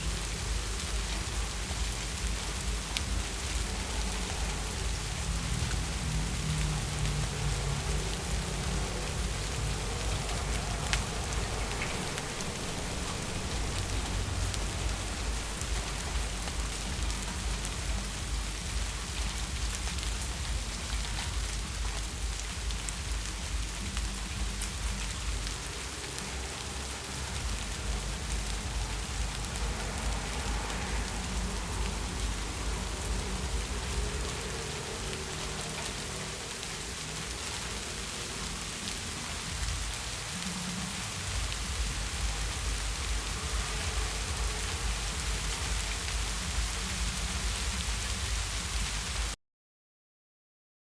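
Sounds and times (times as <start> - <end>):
heavy rain on hard surfaces: 0.0 - 49.4
low rumble: 0.0 - 49.4.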